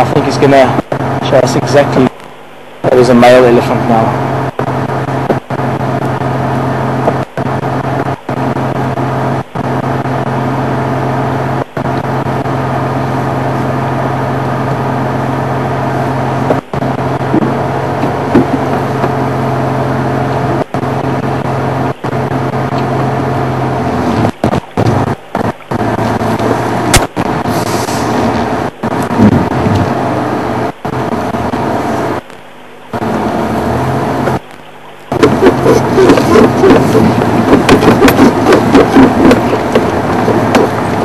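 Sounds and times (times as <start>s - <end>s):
vehicle engine idling: 2.7s - 41.0s.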